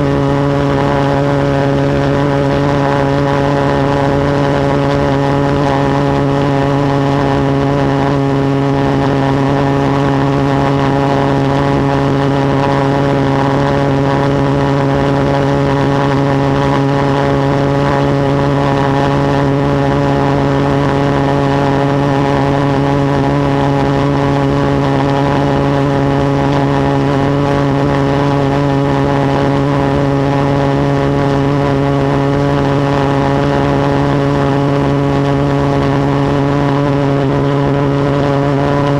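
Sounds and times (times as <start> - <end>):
pulse jet engine drone: 0.0 - 38.9.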